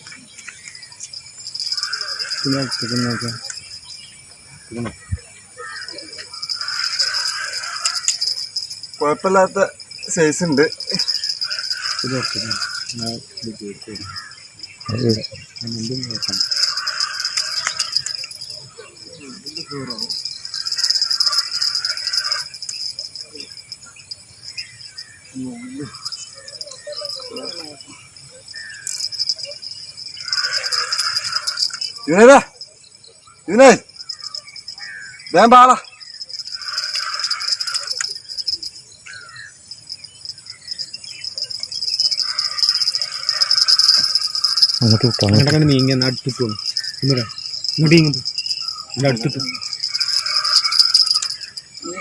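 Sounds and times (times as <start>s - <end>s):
insect buzzing: 0.0s - 52.0s.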